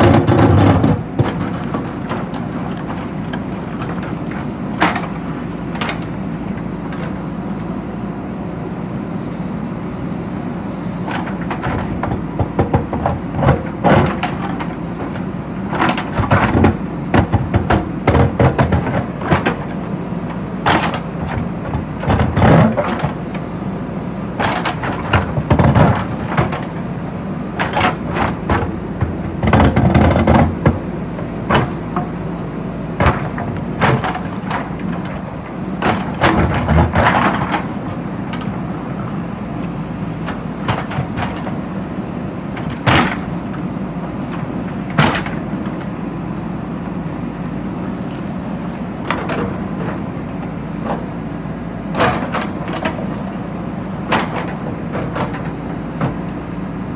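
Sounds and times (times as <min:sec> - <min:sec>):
bucket clanking and scraping: 0:00.0 - 0:07.8, 0:11.0 - 0:47.9, 0:51.8 - 0:56.8
diesel engine running: 0:00.0 - 0:56.9.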